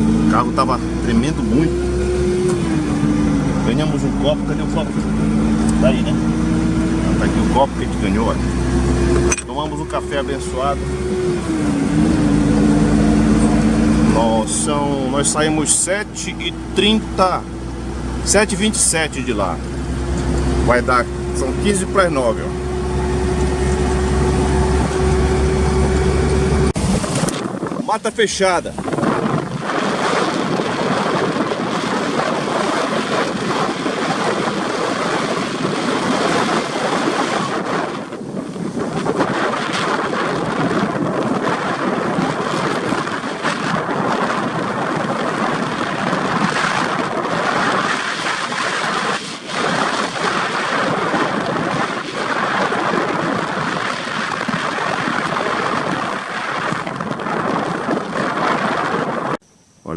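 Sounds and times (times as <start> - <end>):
car road rumble on dirt: 0.0 - 59.4
wind noise on microphone: 0.0 - 59.9.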